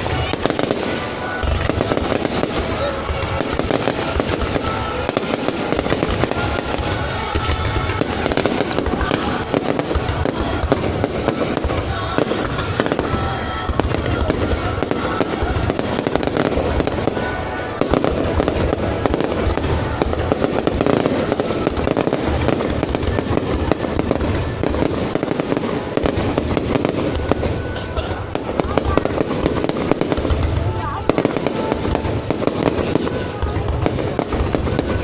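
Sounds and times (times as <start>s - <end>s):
fireworks crackling and banging: 0.0s - 35.0s.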